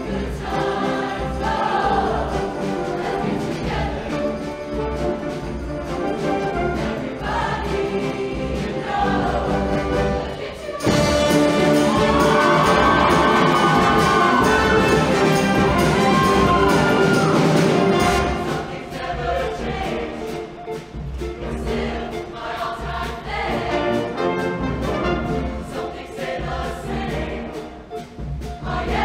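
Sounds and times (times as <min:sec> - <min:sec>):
brass: 0:00.0 - 0:20.4, 0:23.4 - 0:27.4
choir singing with band: 0:00.0 - 0:29.0.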